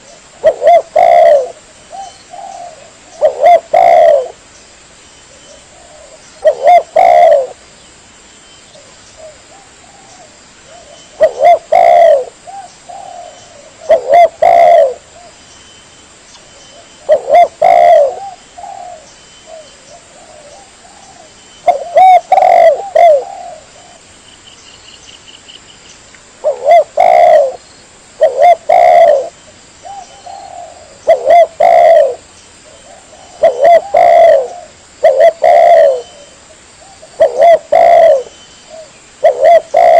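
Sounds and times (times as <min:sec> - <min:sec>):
dove cooing: 0:00.0 - 0:04.4, 0:05.4 - 0:07.6, 0:08.8 - 0:15.4, 0:16.7 - 0:24.1, 0:26.4 - 0:27.6, 0:28.2 - 0:39.9.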